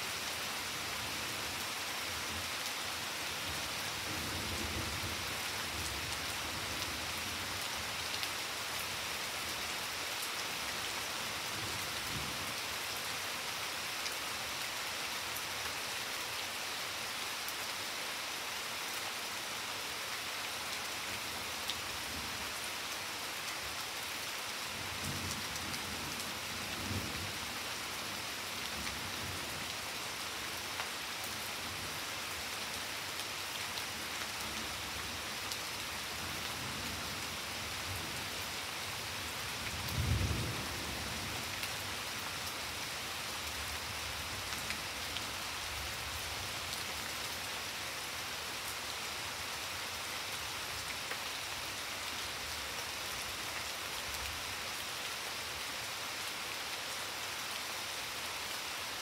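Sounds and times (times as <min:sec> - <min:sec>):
rain pattering on foliage: 0:00.0 - 0:59.0.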